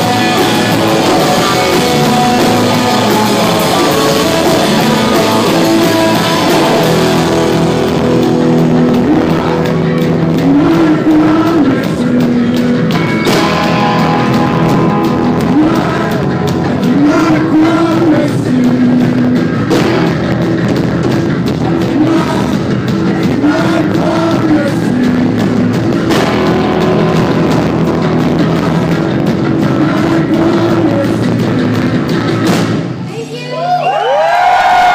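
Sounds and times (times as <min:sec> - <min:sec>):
person singing: 0:00.0 - 0:19.7, 0:21.8 - 0:27.8, 0:28.4 - 0:31.7
electric guitar: 0:00.0 - 0:33.1
rock band playing live: 0:00.0 - 0:34.9.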